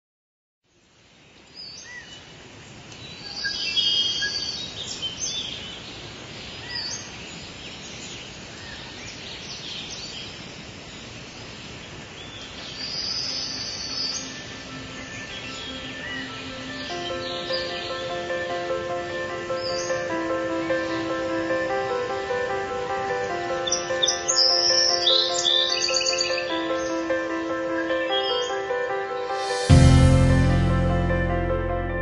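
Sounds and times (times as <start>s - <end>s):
outdoor background hiss: 0.6s - 32.0s
birds chirping: 3.0s - 29.8s.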